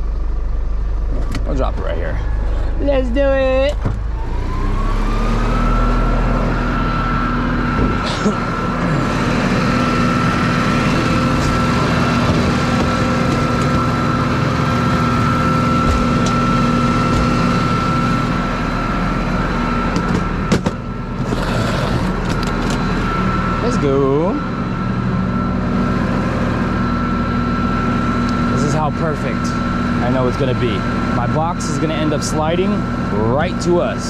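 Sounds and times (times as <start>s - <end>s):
truck engine whine at high idle: 0.0s - 34.0s.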